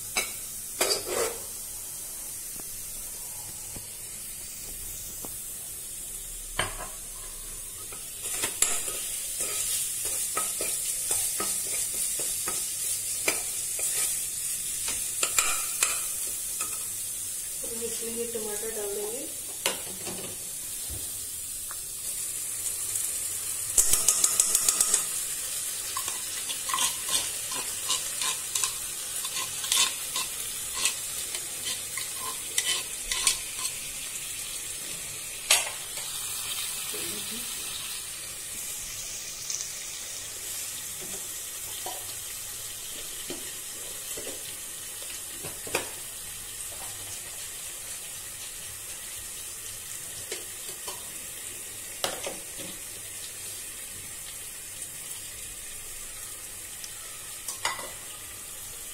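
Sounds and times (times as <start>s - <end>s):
tomatoes sizzling in hot oil: 0.0s - 58.9s.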